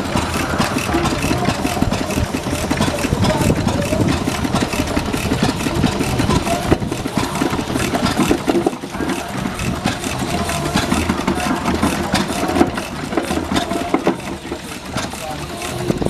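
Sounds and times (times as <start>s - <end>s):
stationary engine running: 0.0s - 16.0s.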